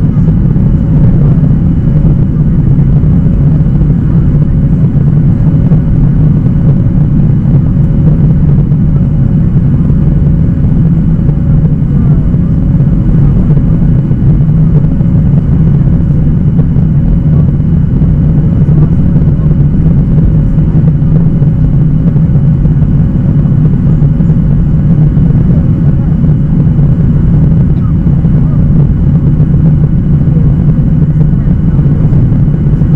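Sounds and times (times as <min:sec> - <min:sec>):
airplane cabin engine drone: 0:00.0 - 0:32.9
faint steady hum: 0:00.0 - 0:32.9.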